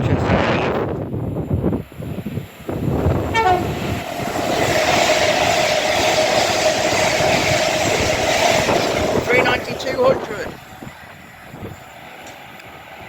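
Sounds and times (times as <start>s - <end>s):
electric train passing: 0.4s - 13.0s.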